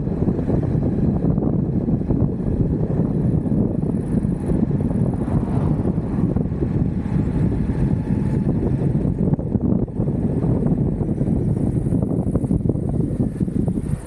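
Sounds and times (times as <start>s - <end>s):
electric skateboard rolling: 0.0s - 14.0s
wind buffeting microphone: 0.0s - 14.0s.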